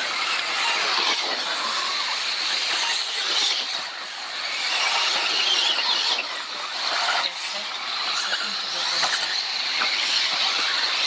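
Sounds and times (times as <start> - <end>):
rc car motors whining: 0.0 - 11.0.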